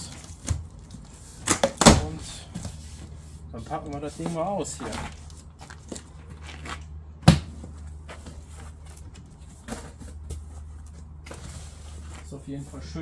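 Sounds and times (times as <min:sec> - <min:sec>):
cardboard flaps rustling and scraping: 0:00.0 - 0:13.0.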